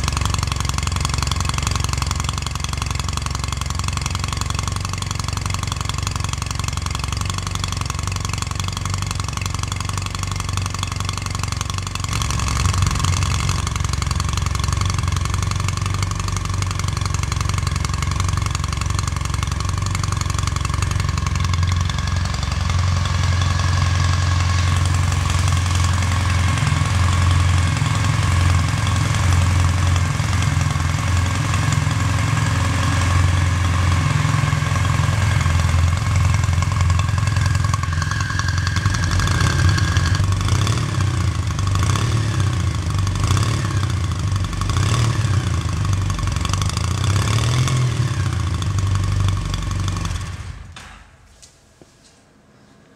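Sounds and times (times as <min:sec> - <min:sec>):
motorcycle engine idling: 0:00.0 - 0:50.9.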